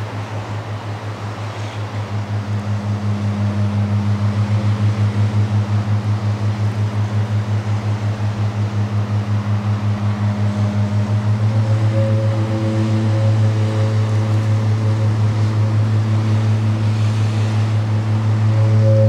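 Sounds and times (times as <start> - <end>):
gong pulsing low hum: 0.0 - 19.0
higher ringing tones: 2.1 - 19.0.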